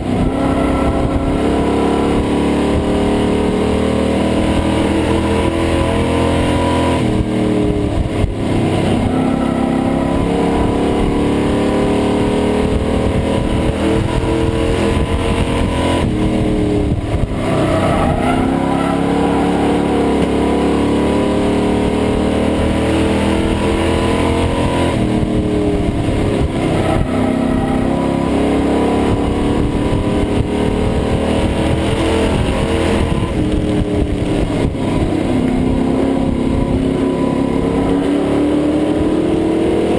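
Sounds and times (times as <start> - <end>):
truck engine accelerating: 0.0 - 39.9.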